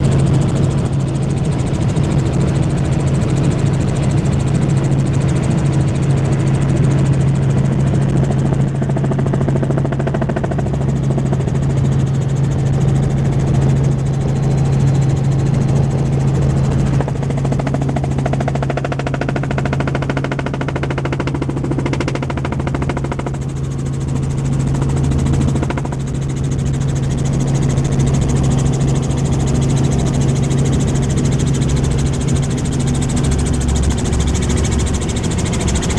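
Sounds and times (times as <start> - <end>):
helicopter rotor and engine drone: 0.0 - 35.9.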